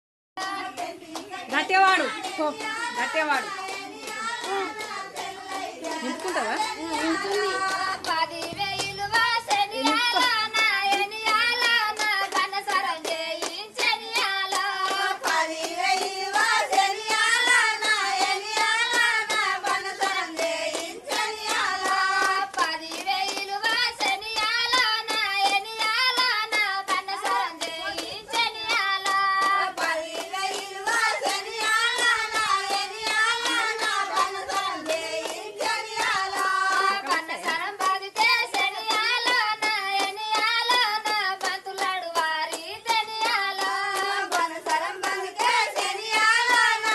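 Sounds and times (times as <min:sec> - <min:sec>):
hand claps: 0:00.4 - 0:46.9
women singing: 0:00.4 - 0:46.9.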